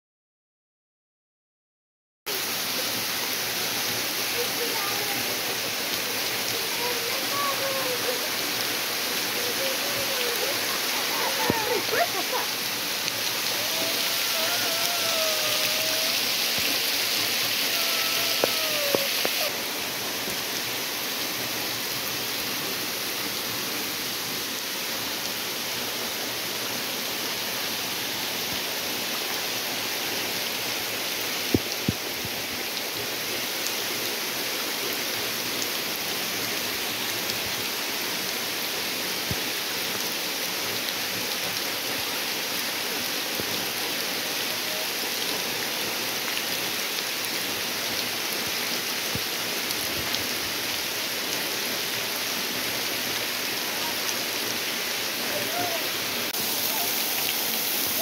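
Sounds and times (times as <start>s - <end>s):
waterfall splashing: 2.3s - 58.0s.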